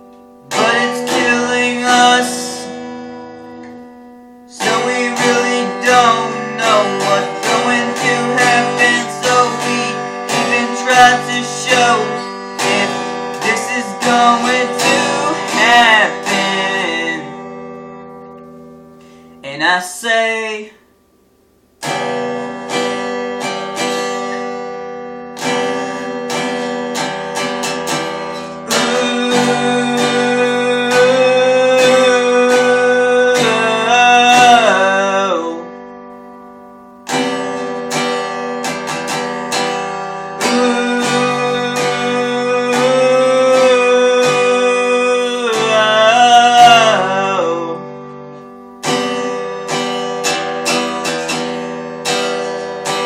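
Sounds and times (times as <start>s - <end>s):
acoustic guitar playing: 0.0s - 53.0s.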